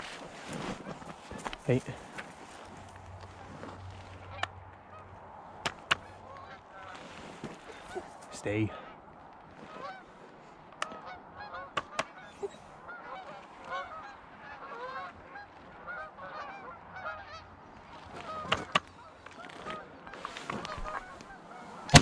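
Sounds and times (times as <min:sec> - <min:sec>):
geese honking: 0:02.6 - 0:09.0, 0:09.6 - 0:10.1, 0:10.8 - 0:22.0.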